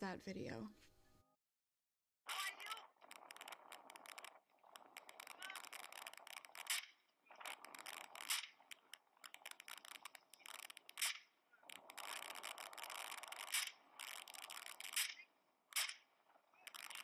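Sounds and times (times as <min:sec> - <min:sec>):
rough crackling noise: 0:02.3 - 0:17.0.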